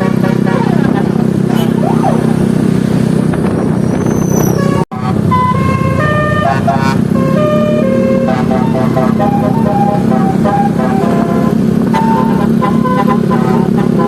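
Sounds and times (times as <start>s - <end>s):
multi-tone bus horn melody: 0.0s - 2.3s, 4.6s - 14.0s
bus engine: 0.0s - 14.0s
road noise: 0.0s - 14.0s.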